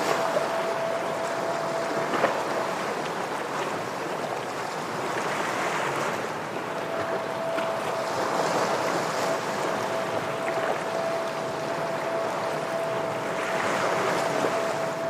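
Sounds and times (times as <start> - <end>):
ocean waves against rocks: 0.0 - 15.0.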